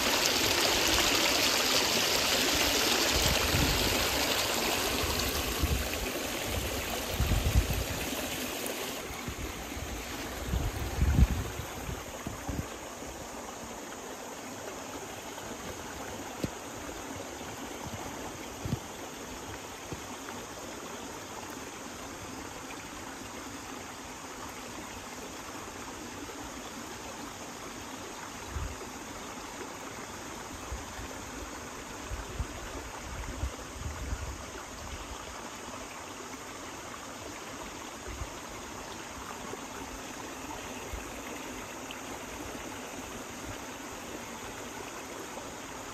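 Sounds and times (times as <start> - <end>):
stream water trickling: 0.0 - 45.9.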